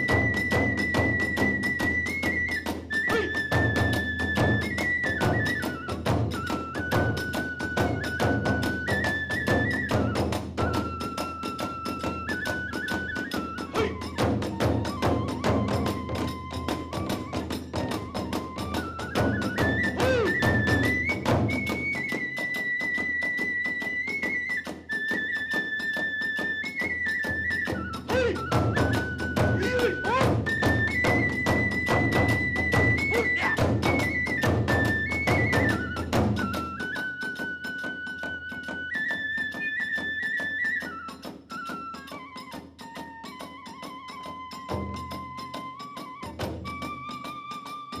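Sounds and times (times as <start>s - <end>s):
taiko drum beats: 0.0s - 39.2s, 39.9s - 47.5s
flute holding long notes: 0.0s - 48.0s.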